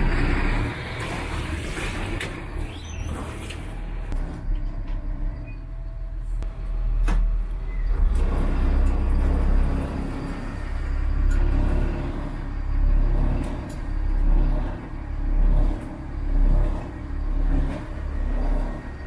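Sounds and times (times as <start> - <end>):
boat diesel engines rumbling: 0.0 - 19.0.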